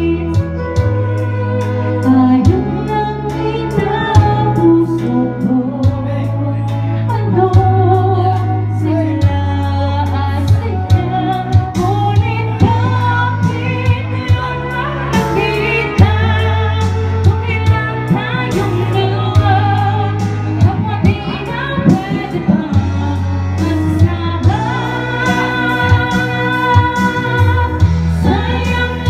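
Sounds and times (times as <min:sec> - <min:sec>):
backing track with bass and beat: 0:00.0 - 0:29.0
woman singing into microphone: 0:00.0 - 0:29.0.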